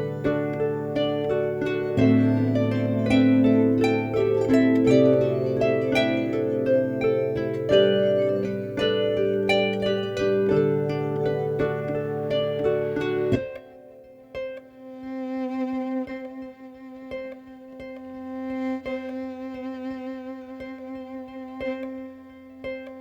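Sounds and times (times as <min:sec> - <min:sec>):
harp plucked notes: 0:00.0 - 0:23.0.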